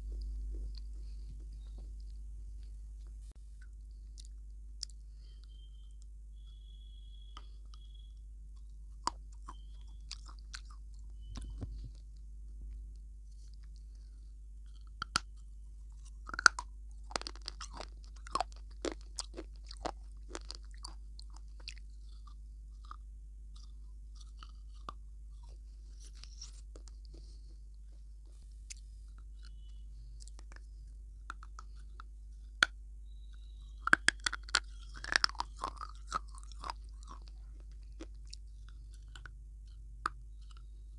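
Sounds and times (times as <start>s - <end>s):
crunchy chewing: 0.0s - 40.9s.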